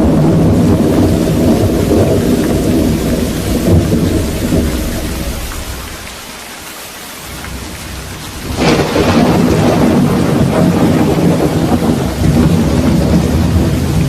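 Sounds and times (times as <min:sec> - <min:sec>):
sharp thunderclap: 0:00.0 - 0:06.2, 0:07.4 - 0:14.0
rain hissing: 0:00.0 - 0:14.0
thunder rumble: 0:00.0 - 0:14.0.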